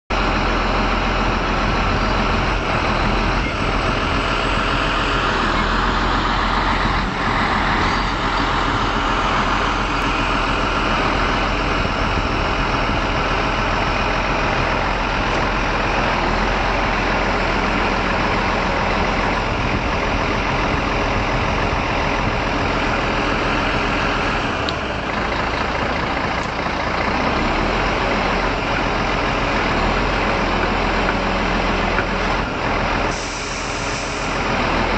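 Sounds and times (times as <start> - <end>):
heavy truck engine running: 0.1 - 34.9.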